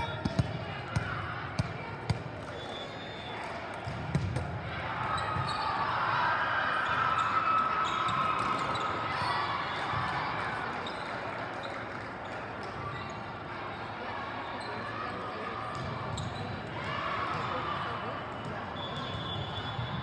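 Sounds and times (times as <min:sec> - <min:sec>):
murmur of voices: 0:00.0 - 0:20.0.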